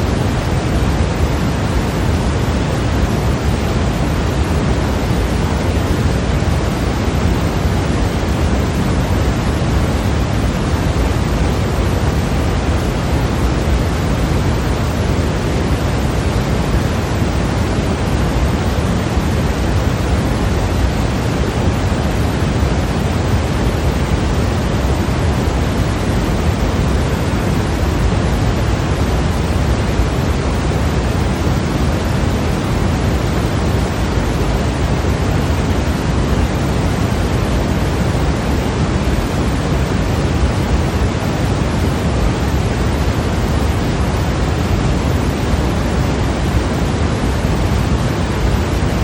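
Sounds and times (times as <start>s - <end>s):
white noise hiss: 0.0s - 49.0s.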